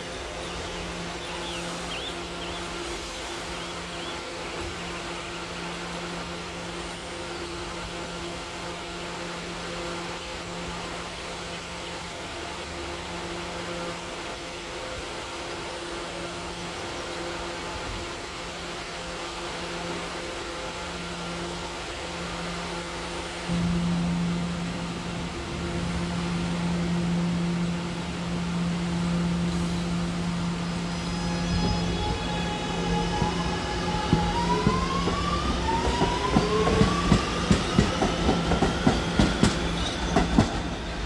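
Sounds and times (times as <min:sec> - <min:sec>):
subway train electrical hum: 0:00.0 - 0:41.0.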